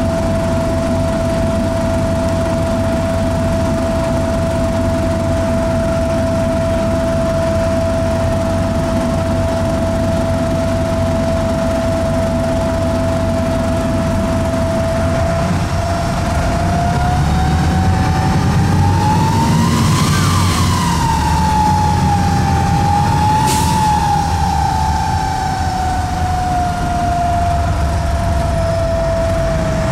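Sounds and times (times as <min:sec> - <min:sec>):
bus diesel engine whining: 0:00.0 - 0:29.9.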